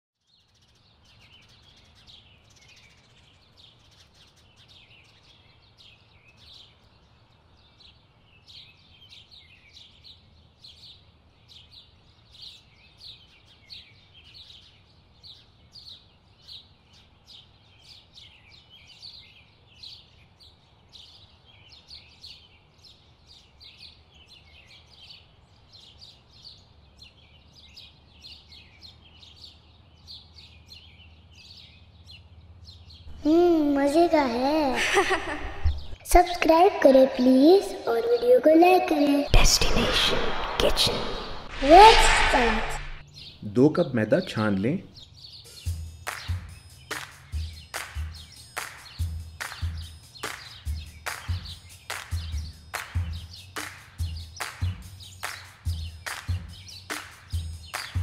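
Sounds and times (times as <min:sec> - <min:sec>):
small birds chirping: 0:00.2 - 0:58.0.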